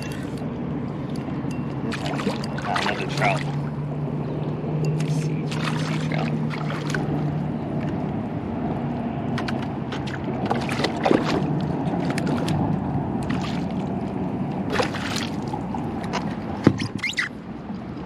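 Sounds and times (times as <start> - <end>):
water wash: 0.0 - 18.0.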